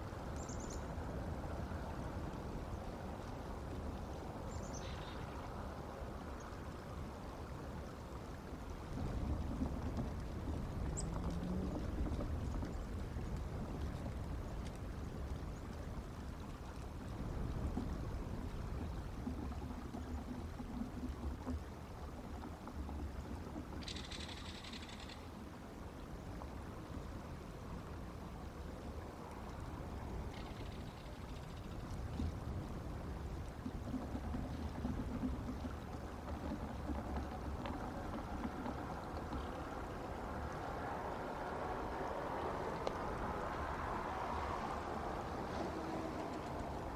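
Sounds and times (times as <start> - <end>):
low outdoor rumble: 0.0 - 46.9.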